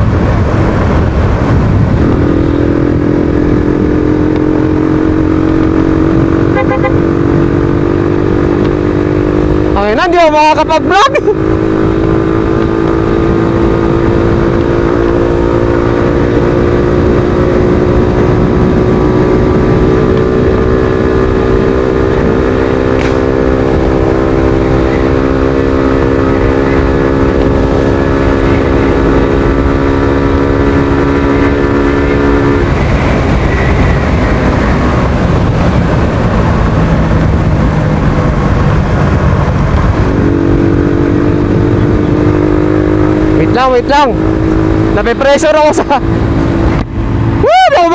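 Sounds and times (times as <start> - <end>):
motorcycle engine running: 0.0 - 47.9
wind rush on microphone: 0.0 - 47.9.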